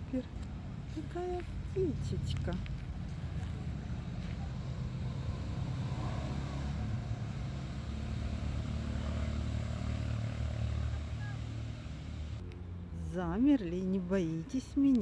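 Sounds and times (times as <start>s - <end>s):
vehicle engine humming: 0.0s - 12.5s.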